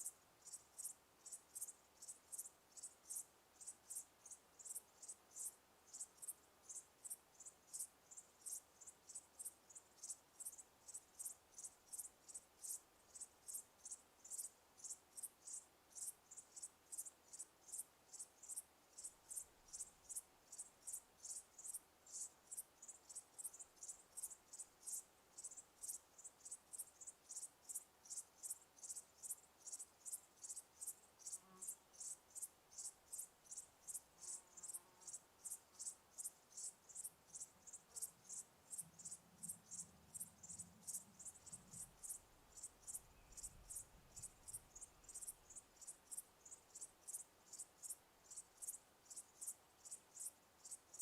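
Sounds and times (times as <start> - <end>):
cricket chirping: 0.0 - 51.0.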